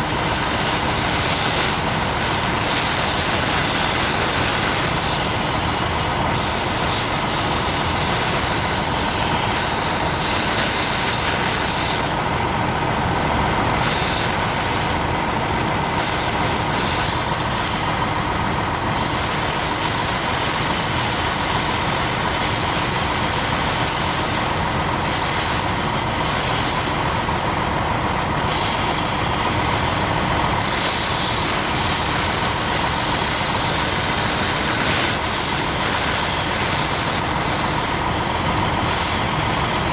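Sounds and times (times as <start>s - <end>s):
compressed air hissing: 0.0s - 12.3s, 13.7s - 39.9s.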